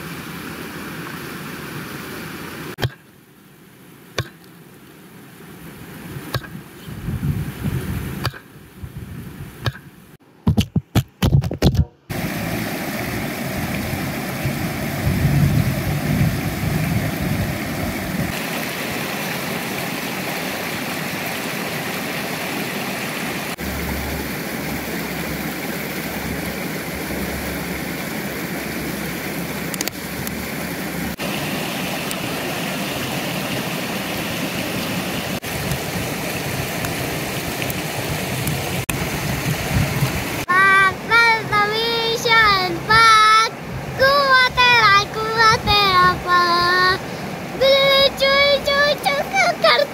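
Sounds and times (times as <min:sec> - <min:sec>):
river water rushing over stones: 0:00.0 - 0:06.8, 0:12.1 - 0:49.9.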